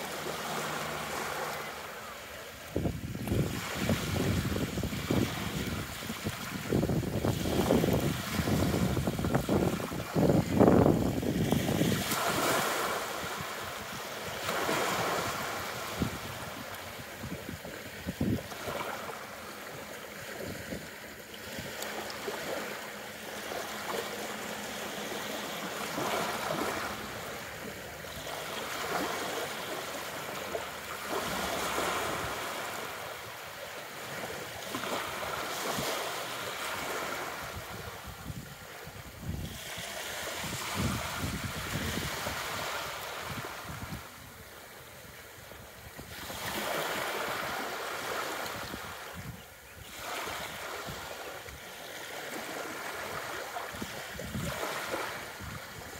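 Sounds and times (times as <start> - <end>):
small waves lapping on shore: 0.0 - 55.9.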